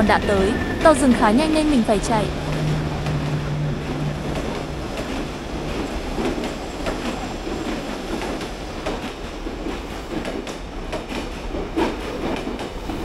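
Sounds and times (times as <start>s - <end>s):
train wheels clattering over rail joints: 2.3s - 13.0s.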